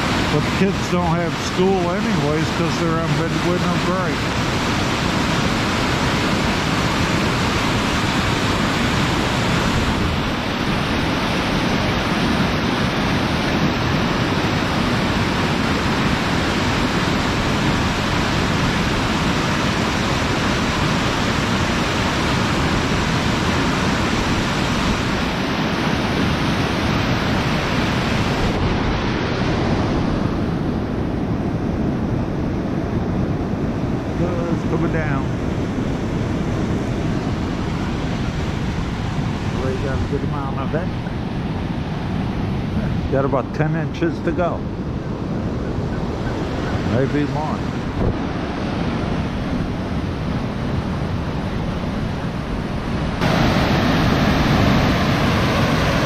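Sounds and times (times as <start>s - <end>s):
gusty wind buffeting microphone: 0.0s - 56.0s
river rushing: 0.0s - 56.0s.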